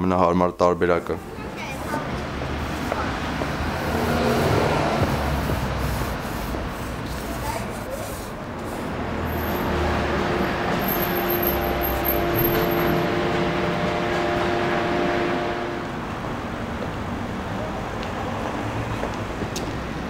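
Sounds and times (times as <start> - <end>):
street traffic rumble: 0.0 - 20.0
vehicle engine humming: 1.0 - 20.0.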